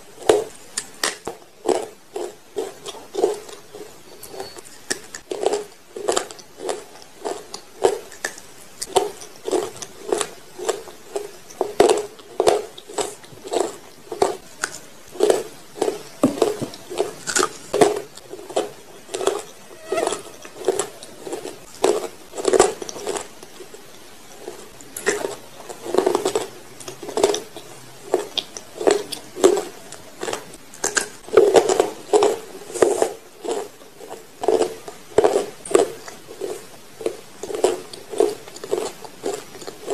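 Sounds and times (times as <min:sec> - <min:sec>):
chewing crunches: 0:00.0 - 0:39.9.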